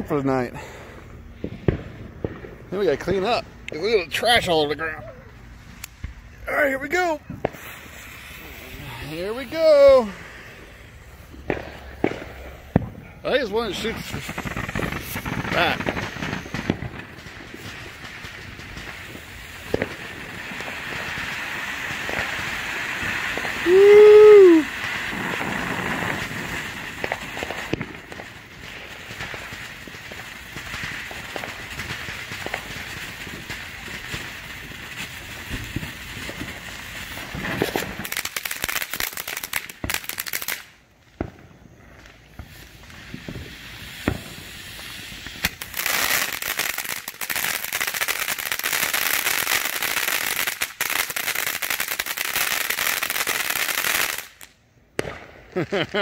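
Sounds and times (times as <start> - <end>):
firework fountain hissing and crackling: 0.0 - 56.0.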